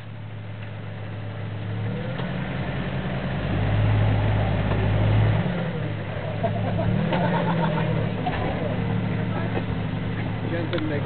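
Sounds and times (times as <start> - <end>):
engine droning under load: 0.0 - 11.0.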